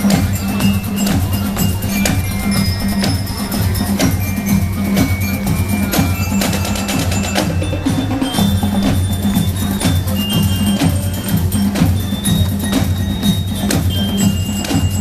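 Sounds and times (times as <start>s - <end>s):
marching band drums: 0.0s - 15.0s
ringing glockenspiel notes: 0.0s - 15.0s.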